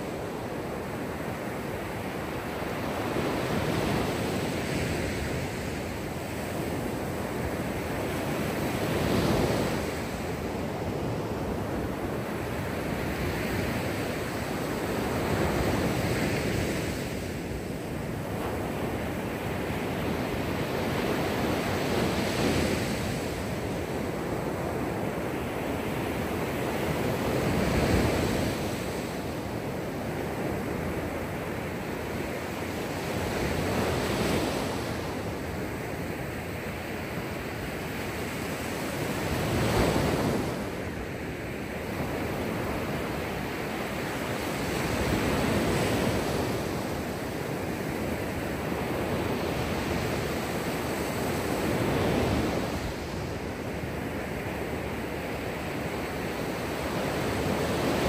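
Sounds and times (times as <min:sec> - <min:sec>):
waves breaking on beach: 0:00.0 - 0:58.0.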